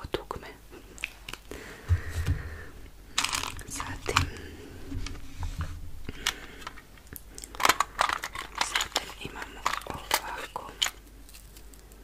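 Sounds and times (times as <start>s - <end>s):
rustling and crinkling: 0.8s - 12.0s.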